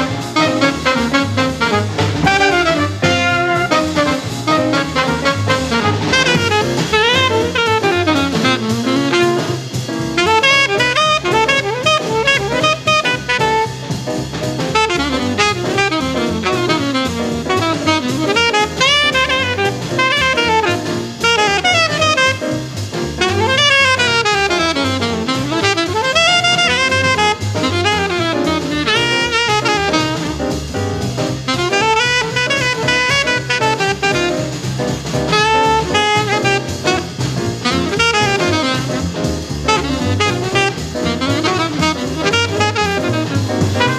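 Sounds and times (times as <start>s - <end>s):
horn solo: 0.0s - 14.0s, 14.7s - 30.6s, 31.4s - 34.7s, 35.3s - 43.9s
drums: 0.0s - 43.9s
fast bebop jazz: 0.0s - 43.9s
piano comping: 0.0s - 43.9s
walking bass: 0.0s - 43.9s.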